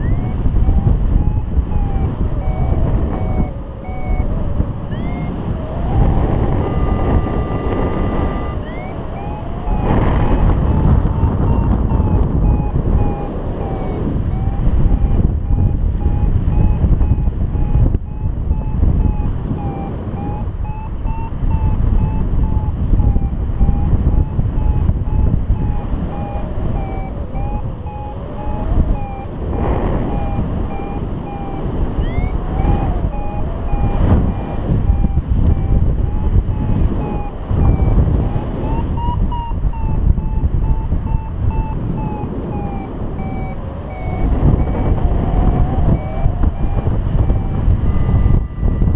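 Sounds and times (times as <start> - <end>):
variometer beeping: 0.0 - 48.9
wind buffeting microphone: 0.0 - 48.9.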